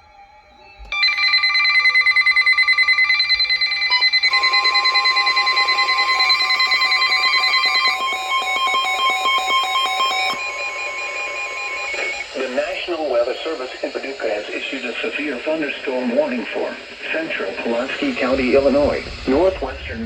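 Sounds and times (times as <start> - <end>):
steady alarm tone: 0.0 - 20.0.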